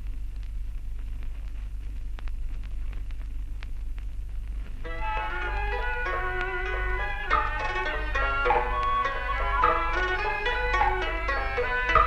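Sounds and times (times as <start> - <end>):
low hum: 0.0 - 12.0
record crackles and clicks: 0.0 - 12.0
record hiss: 0.0 - 12.0.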